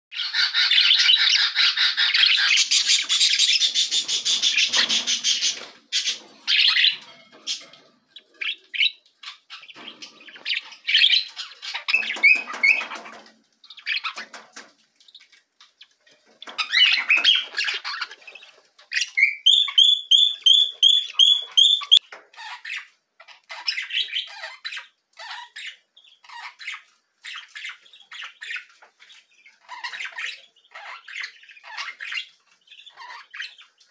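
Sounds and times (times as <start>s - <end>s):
budgerigars chattering and squawking: 0.2s - 33.9s.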